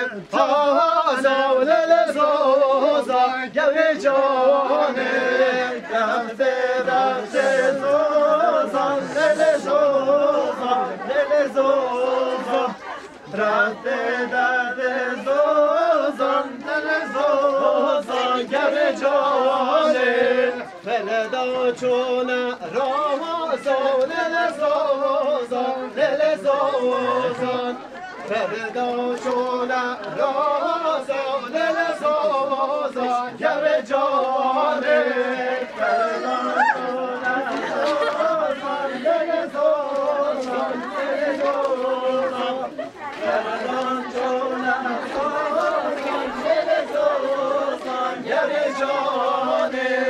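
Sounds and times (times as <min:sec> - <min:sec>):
people singing together: 0:00.0 - 0:50.0.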